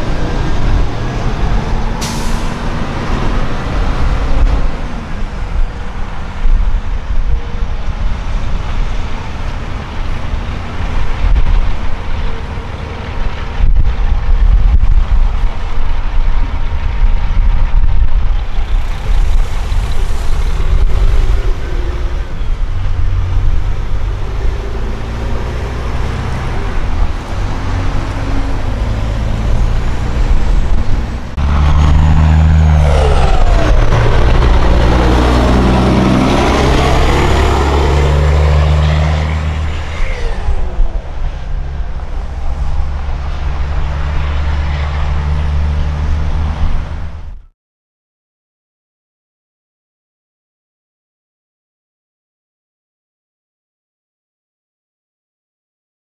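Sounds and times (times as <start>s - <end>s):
diesel truck engine accelerating: 0.0s - 47.5s.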